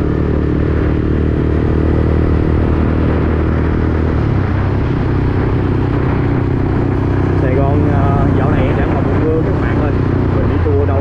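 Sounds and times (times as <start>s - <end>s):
motorcycle engine running: 0.0s - 11.0s
road noise rushing: 0.0s - 11.0s.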